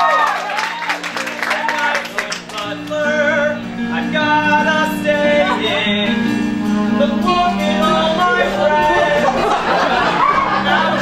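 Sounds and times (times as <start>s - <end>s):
instrumental accompaniment: 0.7s - 11.0s
voices singing held notes: 1.6s - 11.0s.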